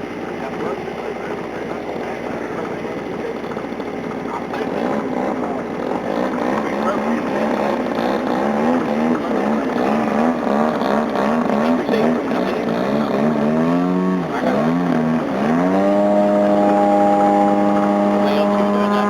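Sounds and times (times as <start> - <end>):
model plane engine and propeller: 0.0 - 19.0.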